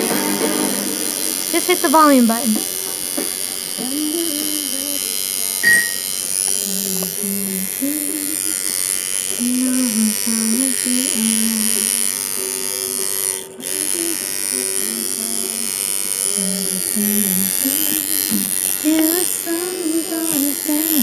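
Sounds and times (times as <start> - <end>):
tattoo machine buzzing: 0.0 - 21.0.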